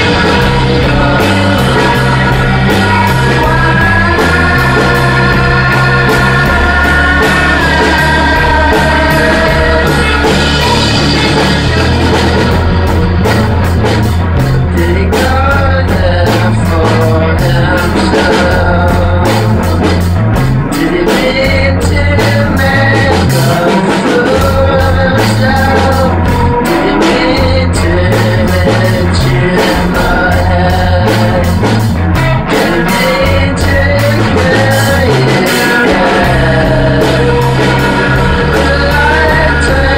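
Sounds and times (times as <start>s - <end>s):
singing through rotating speaker: 0.0s - 13.5s, 14.4s - 39.9s
loud drums: 0.0s - 39.9s
rock band instruments: 0.0s - 39.9s.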